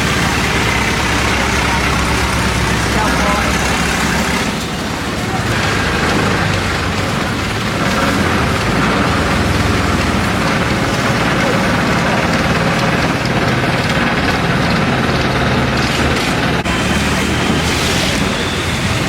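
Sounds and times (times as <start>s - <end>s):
boat engine running steadily: 0.0s - 19.0s.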